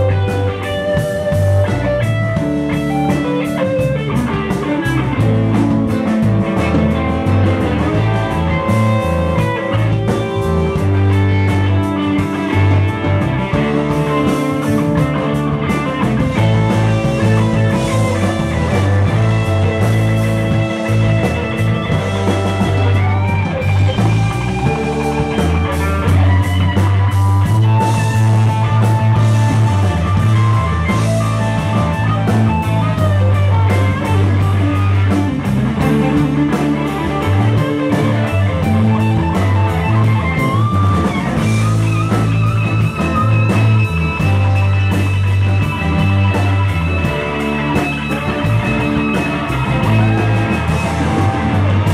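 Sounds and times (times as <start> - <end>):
drum kit beat: 0.0 - 51.9
electric guitars: 0.0 - 51.9
keyboard: 0.0 - 51.9.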